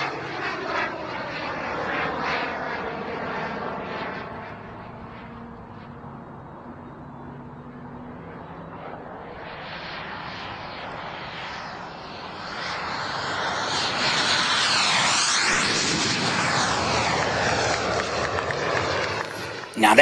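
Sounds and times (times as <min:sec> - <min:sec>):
model jet engine rushing: 0:00.0 - 0:20.0.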